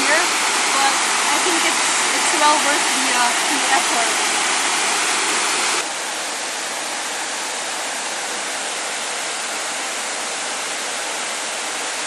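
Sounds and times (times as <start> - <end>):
distant waterfall rushing: 0.0 - 12.0.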